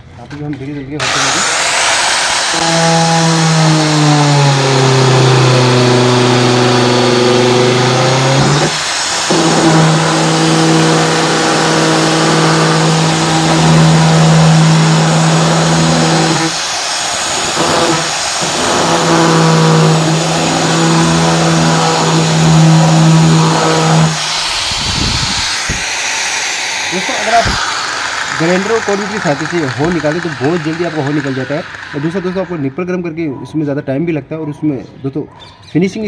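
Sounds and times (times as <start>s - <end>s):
angle grinder cutting plastic: 1.0s - 32.9s.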